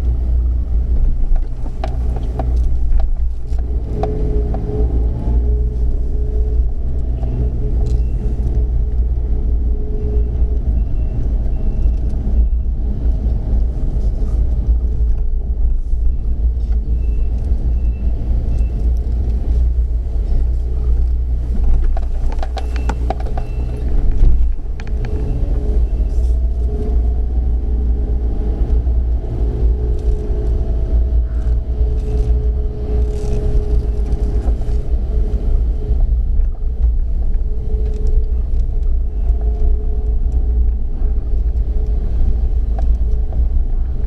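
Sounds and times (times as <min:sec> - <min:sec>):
low engine rumble: 0:00.0 - 0:44.0.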